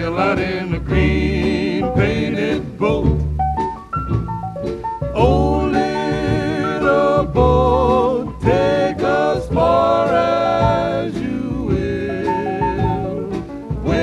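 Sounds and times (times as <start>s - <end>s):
voices singing in harmony: 0.0s - 3.2s, 5.2s - 14.0s
bass accompaniment: 0.0s - 14.0s.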